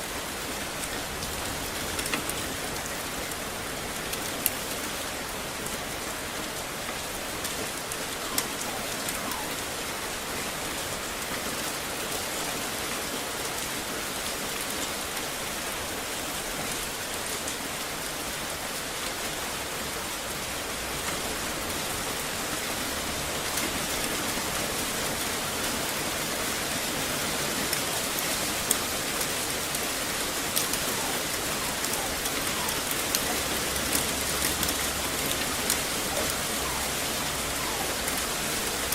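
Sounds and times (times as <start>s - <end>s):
rain on hard surfaces: 0.0s - 38.9s.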